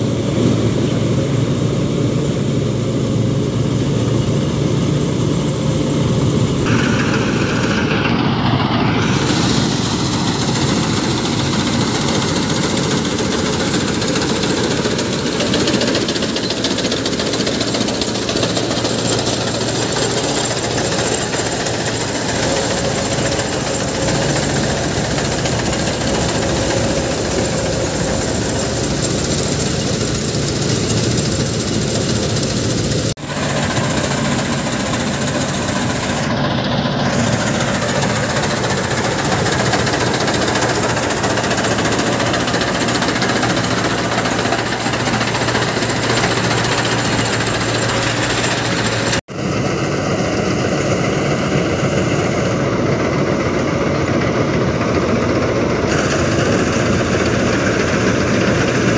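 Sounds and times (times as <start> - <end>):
combine harvester engine running: 0.0 - 58.9.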